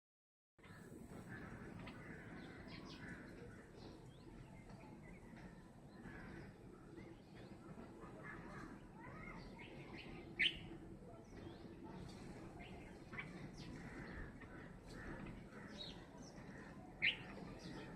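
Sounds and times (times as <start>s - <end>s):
birds chirping: 0.6s - 17.9s.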